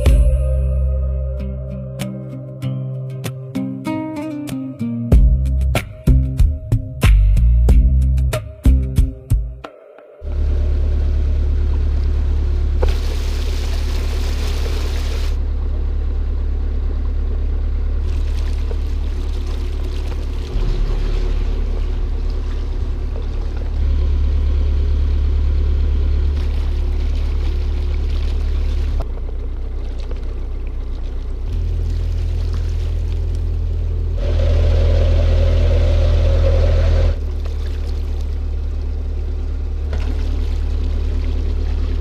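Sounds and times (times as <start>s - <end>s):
boat engine droning: 0.0s - 4.0s, 10.1s - 42.0s.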